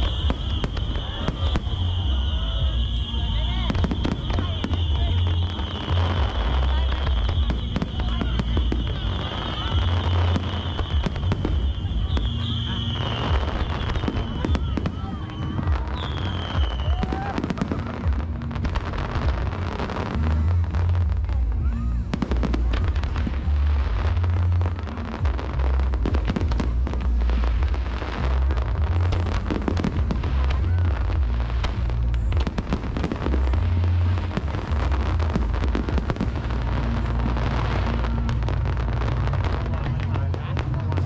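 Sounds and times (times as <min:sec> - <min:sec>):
fireworks bursting and crackling: 0:00.0 - 0:41.0
loud music: 0:00.0 - 0:41.0.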